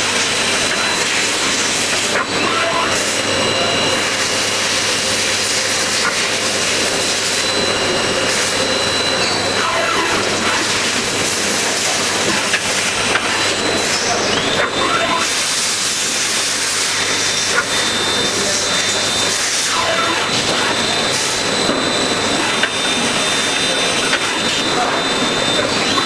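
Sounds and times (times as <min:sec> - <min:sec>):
high machine whine: 0:00.0 - 0:26.0.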